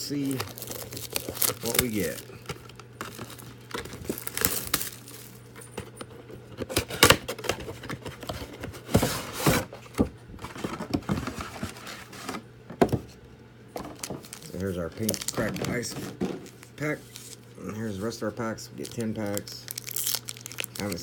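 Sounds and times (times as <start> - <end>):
card packs rustling and crinkling: 0.0 - 13.1, 13.7 - 21.0.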